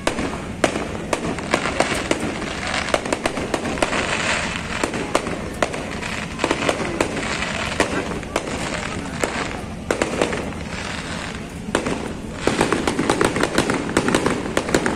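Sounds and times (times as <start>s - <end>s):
fireworks bangs: 0.0s - 14.9s
fireworks crackle: 0.0s - 14.9s.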